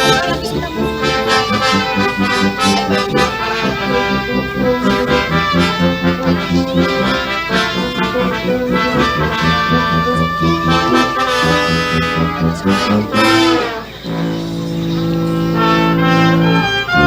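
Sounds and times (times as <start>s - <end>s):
brass-like melody: 0.0s - 17.0s
steady low beat: 0.0s - 17.0s.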